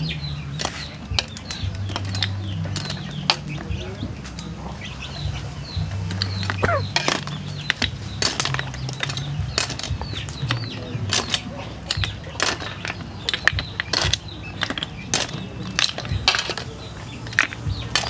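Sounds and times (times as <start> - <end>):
snail shells clicking on metal: 0.6 - 3.8, 6.1 - 18.0.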